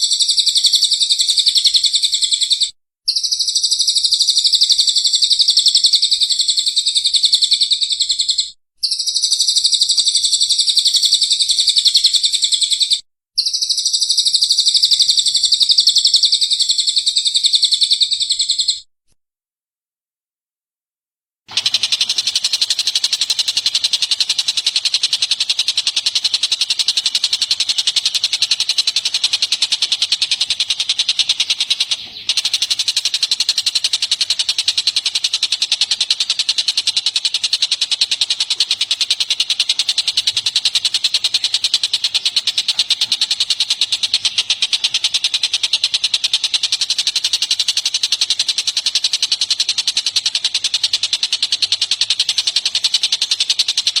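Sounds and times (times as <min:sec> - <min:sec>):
recorded songbird trilling: 0:00.0 - 0:18.9, 0:21.5 - 0:54.0.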